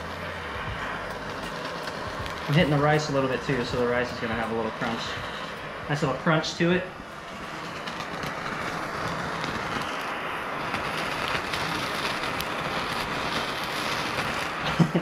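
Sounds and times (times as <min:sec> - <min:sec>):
faint crackles: 0:00.0 - 0:15.0
gas torch hissing: 0:00.0 - 0:15.0.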